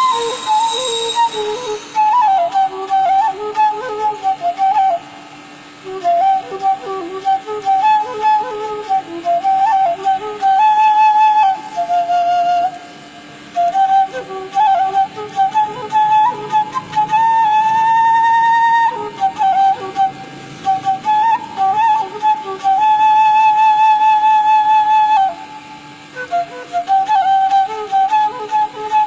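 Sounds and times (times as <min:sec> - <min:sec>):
bamboo flute melody: 0:00.0 - 0:29.0.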